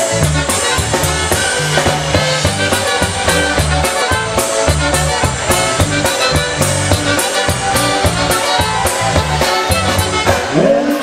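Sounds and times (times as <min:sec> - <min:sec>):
polka band playing: 0:00.0 - 0:11.0
saxophone: 0:00.0 - 0:11.0.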